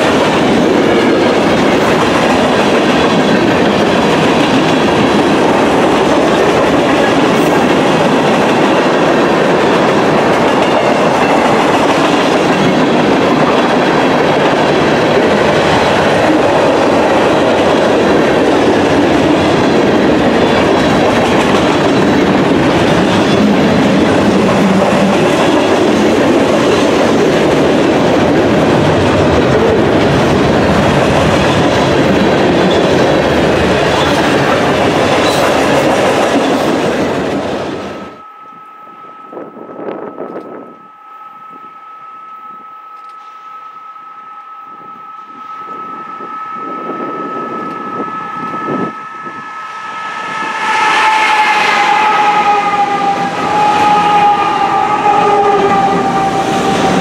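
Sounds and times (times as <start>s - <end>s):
steel train wheels on rail: 0.0s - 57.0s.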